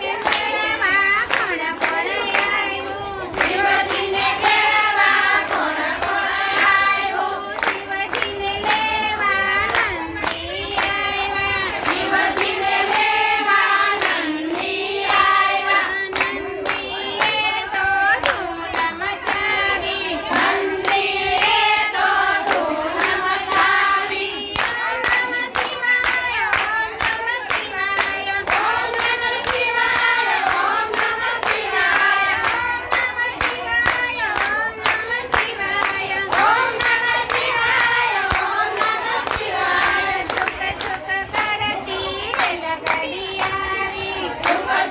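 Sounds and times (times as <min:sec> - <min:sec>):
hands clapping in time: 0:00.0 - 0:44.8
women singing together: 0:00.0 - 0:44.9.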